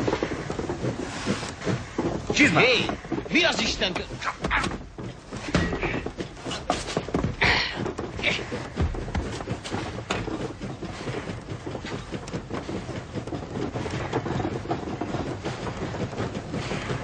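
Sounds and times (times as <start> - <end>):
railway wagon rattling and knocking: 0.0 - 17.0.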